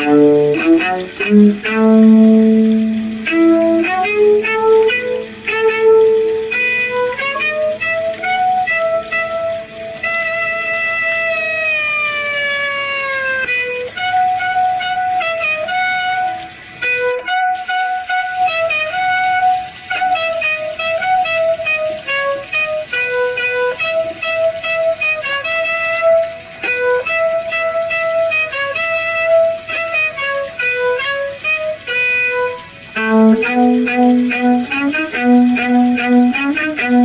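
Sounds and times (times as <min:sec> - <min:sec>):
violin playing a melody: 0:00.0 - 0:37.0.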